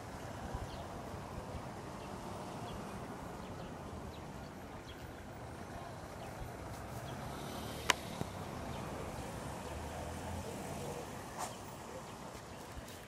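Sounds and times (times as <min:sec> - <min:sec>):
vehicle engines humming: 0:00.0 - 0:13.0.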